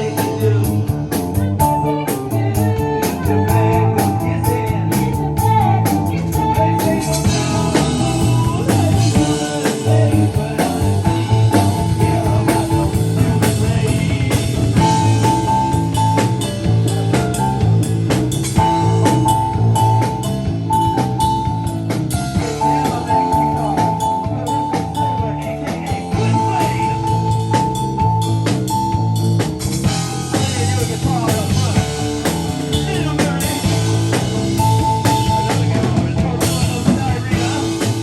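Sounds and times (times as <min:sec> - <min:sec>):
drum kit beat: 0:00.0 - 0:38.0
high guitar riff: 0:00.0 - 0:38.0
rock band playing live: 0:00.0 - 0:38.0.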